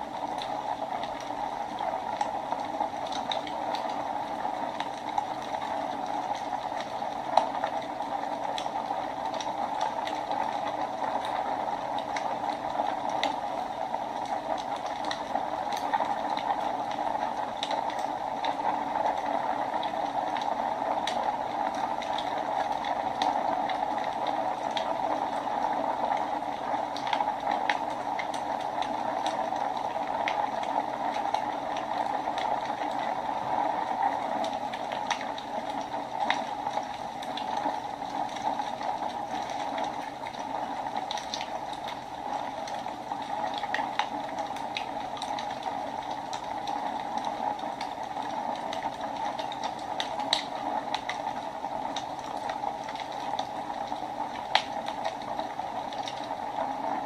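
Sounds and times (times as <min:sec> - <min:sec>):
fire crackles and pops: 0:00.0 - 0:57.0.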